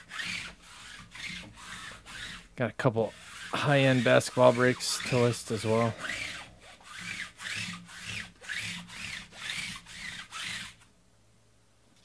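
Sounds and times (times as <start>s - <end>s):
rhythmic scraping strokes: 0.0s - 10.8s.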